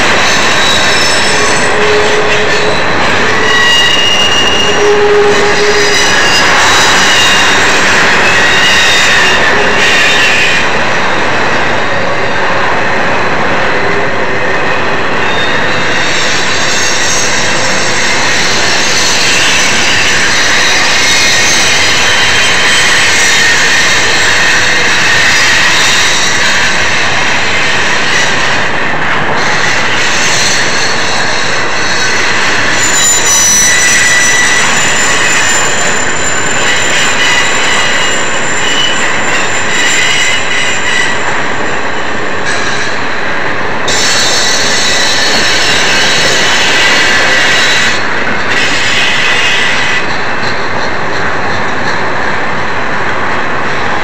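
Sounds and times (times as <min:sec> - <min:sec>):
high-pitched wheel squeal: 0:00.0 - 0:11.2, 0:13.8 - 0:28.7, 0:29.3 - 0:43.1, 0:43.9 - 0:52.0
train wheels rumbling on rails: 0:00.0 - 0:54.0.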